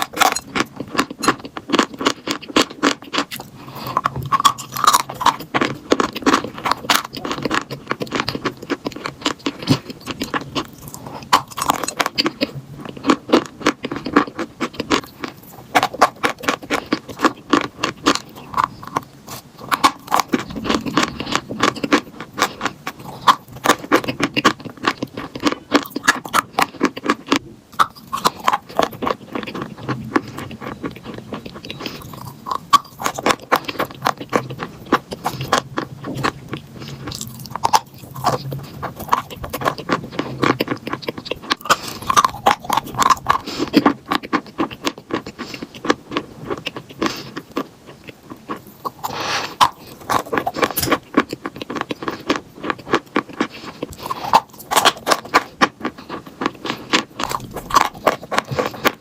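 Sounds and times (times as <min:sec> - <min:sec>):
chewing crunchy chalk: 0:00.0 - 0:59.0.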